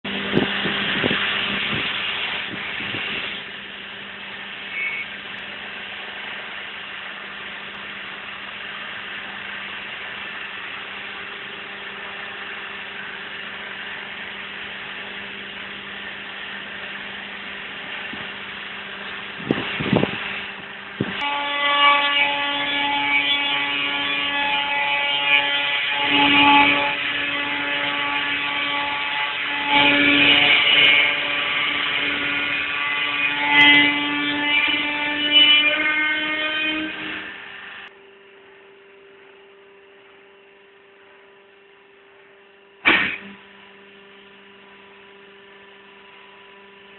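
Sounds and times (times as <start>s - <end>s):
baler motor and pump humming: 0.1s - 46.9s.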